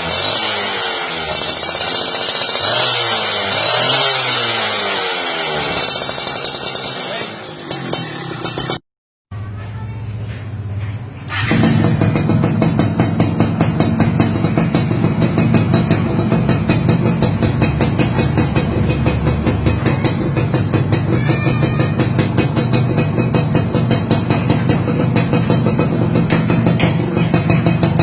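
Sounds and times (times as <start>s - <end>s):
two-stroke engine idling: 0.0s - 8.8s, 11.3s - 28.0s.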